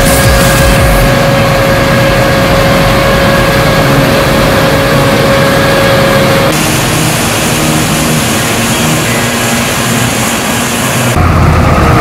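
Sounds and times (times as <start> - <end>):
combine harvester running: 0.0 - 12.0
thin steady whine: 0.0 - 12.0.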